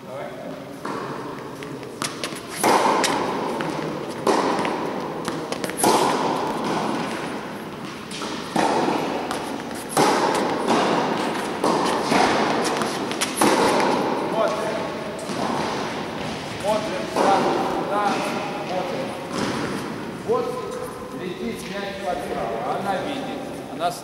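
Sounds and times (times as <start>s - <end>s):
booming hall echo: 0.0s - 24.0s
balls bouncing on court: 0.4s - 23.3s
tennis balls struck by rackets: 0.5s - 22.6s.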